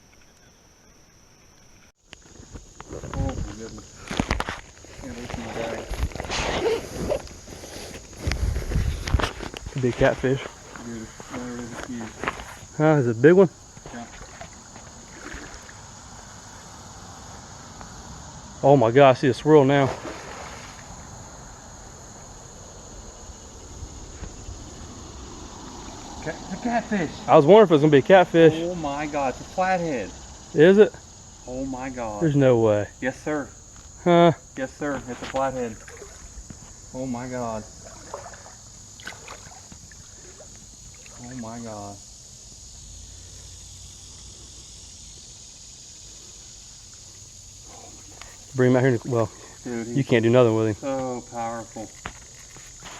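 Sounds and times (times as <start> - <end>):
crickets chirping: 0.0 - 52.9
high-pitched insect chorus: 0.0 - 52.9.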